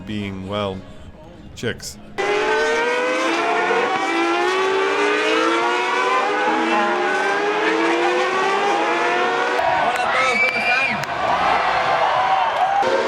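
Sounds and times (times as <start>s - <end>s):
race car engines accelerating: 2.2s - 13.0s.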